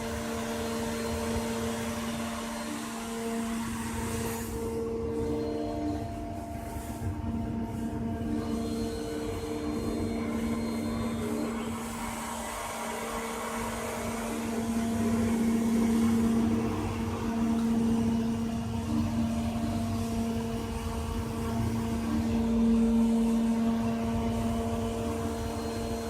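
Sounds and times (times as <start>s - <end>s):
cnc router cutting wood: 0.0s - 26.0s.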